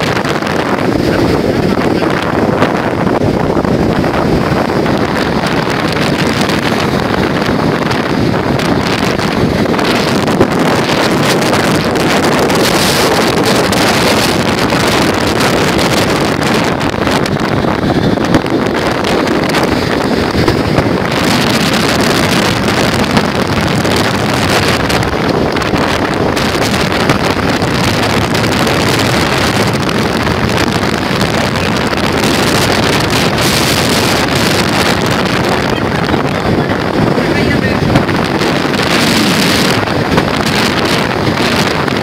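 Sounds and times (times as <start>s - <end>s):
waves breaking on beach: 0.0s - 42.0s
wind buffeting microphone: 0.0s - 42.0s.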